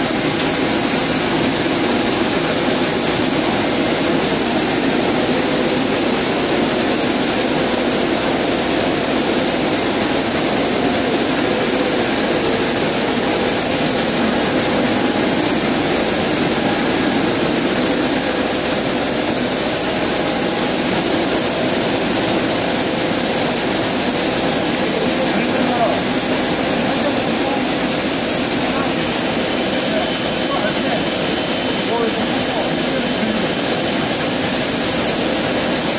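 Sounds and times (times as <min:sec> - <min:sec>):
extruder machine noise: 0:00.0 - 0:35.9.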